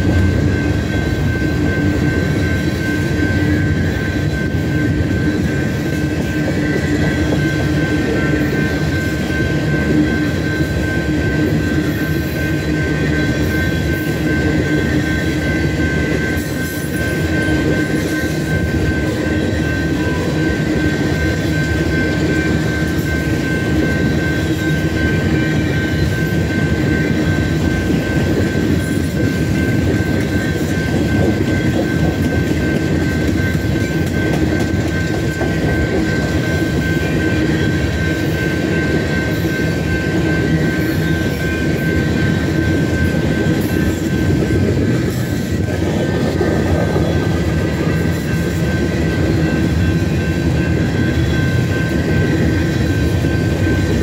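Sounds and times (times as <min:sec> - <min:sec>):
steady high-pitched tone: 0:00.0 - 0:54.0
train wheels clattering over rails: 0:00.0 - 0:54.0.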